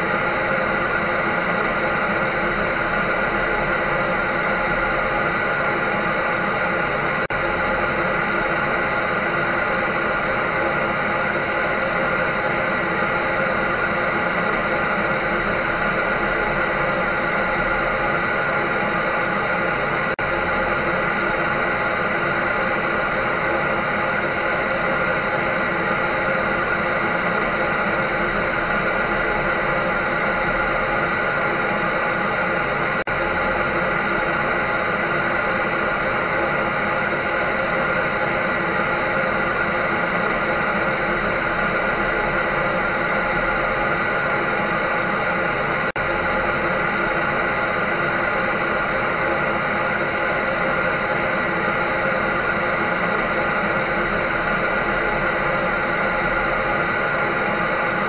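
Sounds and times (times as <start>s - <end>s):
dryer running: 0.0s - 58.0s.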